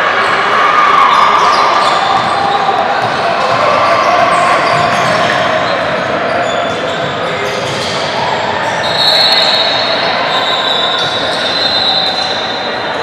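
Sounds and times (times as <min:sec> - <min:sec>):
sneakers squeaking on gym floor: 0:01.1 - 0:12.8.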